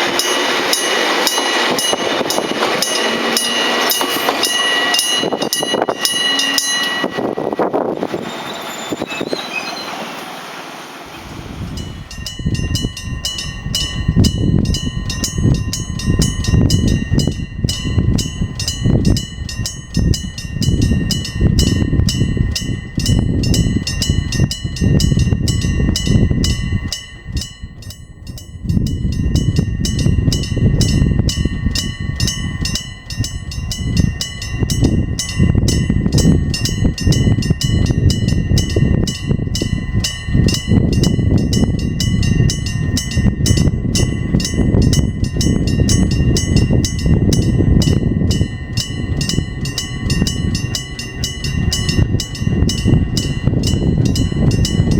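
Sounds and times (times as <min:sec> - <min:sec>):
level crossing bell ringing: 0:00.0 - 0:07.6, 0:11.8 - 0:54.9
low rumble of passing train: 0:00.0 - 0:54.9.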